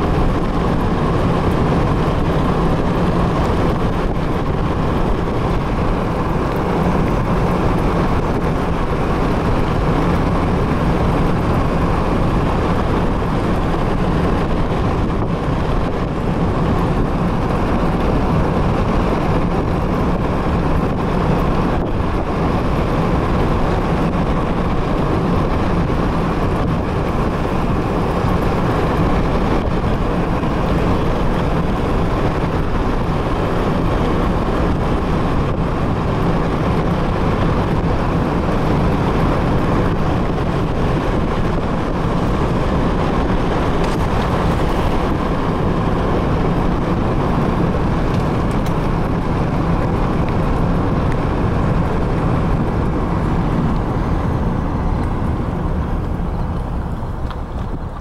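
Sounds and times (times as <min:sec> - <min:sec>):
car road and wind noise: 0:00.0 - 0:58.0.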